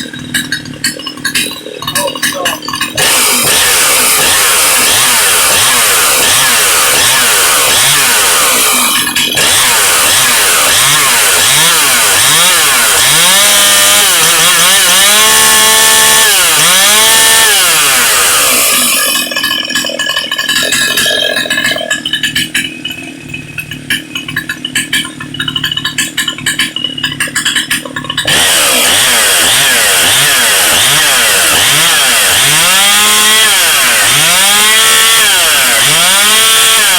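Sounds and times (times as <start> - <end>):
chainsaw revving: 0.0 - 36.9
chainsaw rough idle: 0.0 - 36.9.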